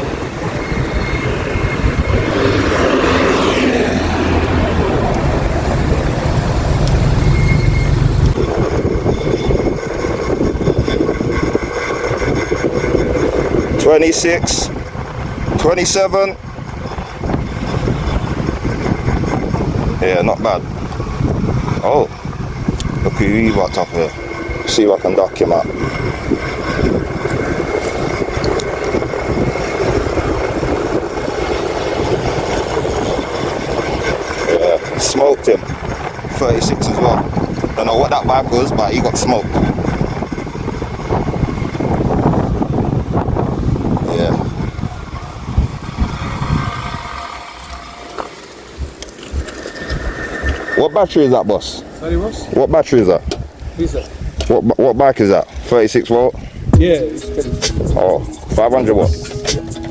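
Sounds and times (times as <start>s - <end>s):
high electric motor whine: 0.0s - 52.4s
road and tyre noise: 0.0s - 59.9s
wind buffeting microphone: 0.0s - 59.9s.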